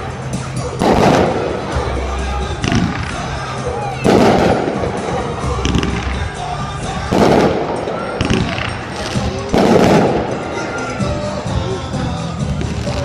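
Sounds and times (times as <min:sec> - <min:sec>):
background music: 0:00.0 - 0:13.0
fireworks booming: 0:00.8 - 0:11.6.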